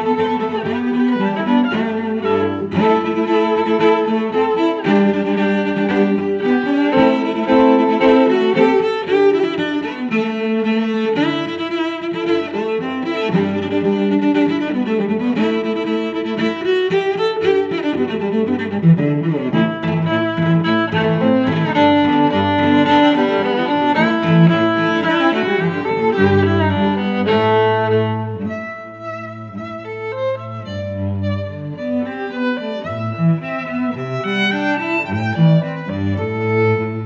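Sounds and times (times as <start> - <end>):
bowed strings music: 0.0 - 37.0.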